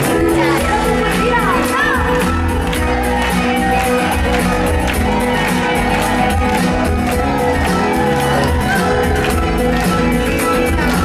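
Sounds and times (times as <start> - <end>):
upbeat song over loudspeakers: 0.0 - 11.0.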